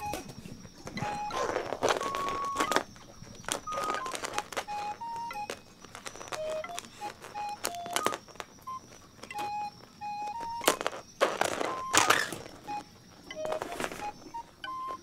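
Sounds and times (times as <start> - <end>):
electronic beeping tune: 0.0 - 15.0.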